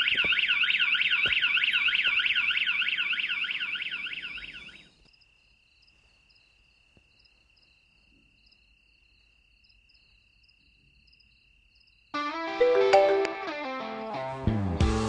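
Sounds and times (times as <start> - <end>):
cricket chirps: 0.0 - 12.2
crickets trilling: 0.0 - 12.2.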